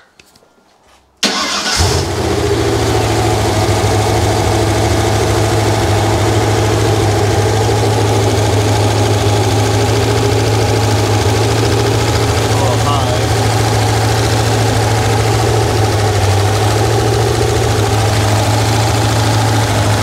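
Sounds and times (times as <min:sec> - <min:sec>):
engine idling: 0:01.2 - 0:20.0.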